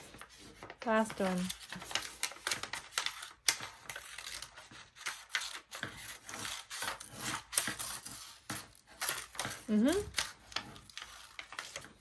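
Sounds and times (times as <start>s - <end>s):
scissors snipping paper: 0.9s - 12.0s.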